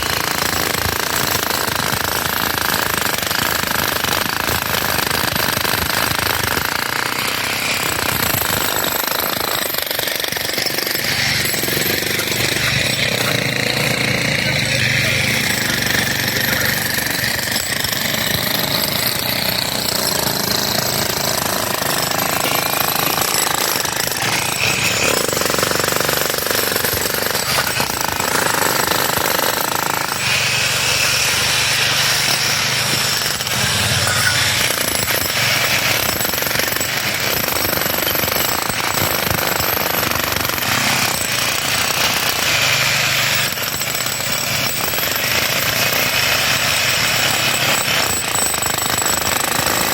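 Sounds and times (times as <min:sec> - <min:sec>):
jackhammer breaking pavement: 0:00.0 - 0:49.9.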